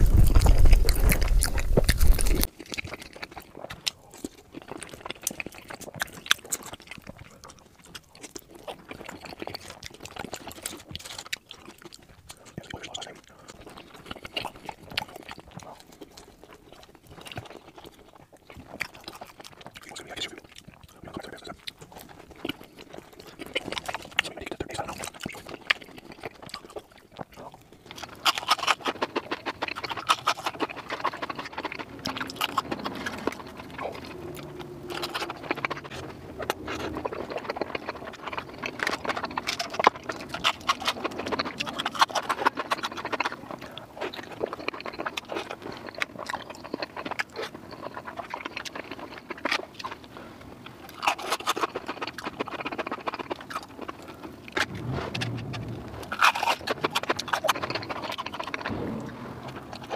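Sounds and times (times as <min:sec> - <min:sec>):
chewing and smacking fried food: 0:00.0 - 0:59.9.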